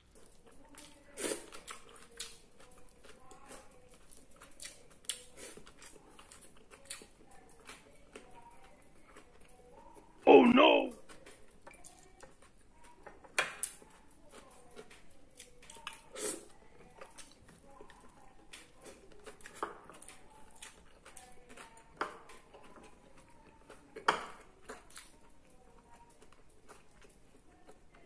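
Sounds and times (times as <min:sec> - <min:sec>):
soft chewing and mouth smacks: 0:00.0 - 0:10.2, 0:10.9 - 0:28.0.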